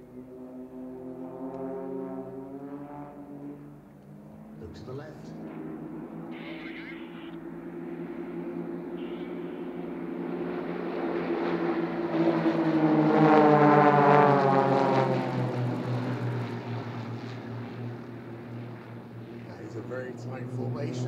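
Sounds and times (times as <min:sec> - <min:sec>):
propeller planes flying overhead: 0:00.0 - 0:21.0.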